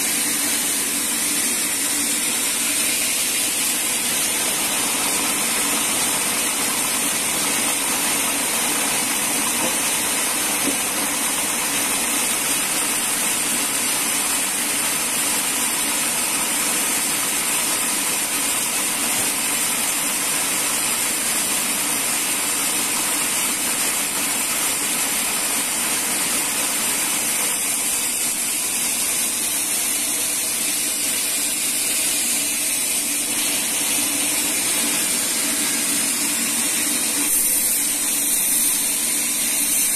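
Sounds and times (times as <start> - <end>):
sawmill machinery hiss and hum: 0.0 - 39.9.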